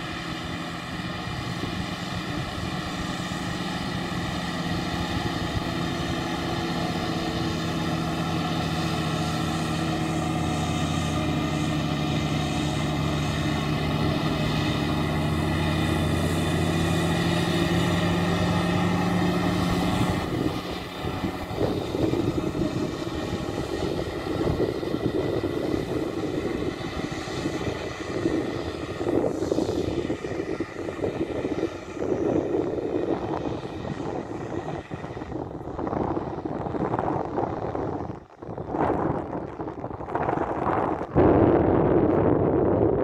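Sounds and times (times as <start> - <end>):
truck engine driving through sand: 0.0 - 43.0.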